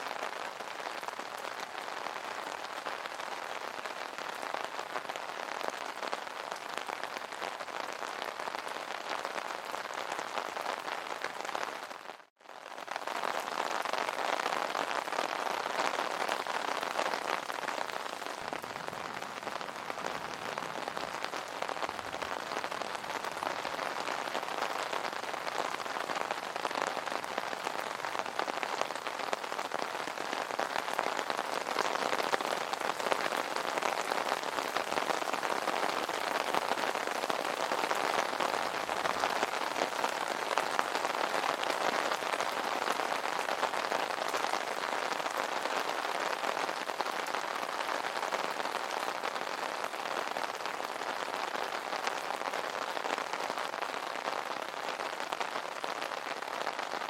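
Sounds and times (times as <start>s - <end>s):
rain falling on an umbrella: 0.0s - 57.0s.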